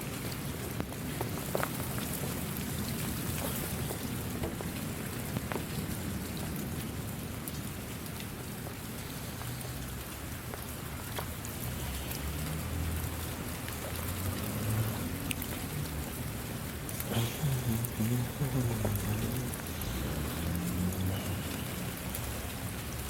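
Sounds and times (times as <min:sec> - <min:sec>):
raindrop ticks: 0:00.0 - 0:23.0
steady rain hiss: 0:00.0 - 0:23.0.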